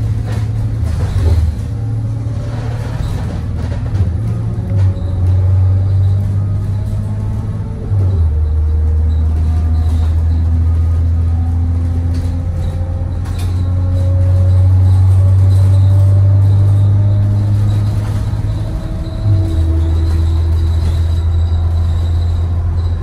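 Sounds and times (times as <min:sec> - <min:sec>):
bus engine droning: 0:00.0 - 0:23.0.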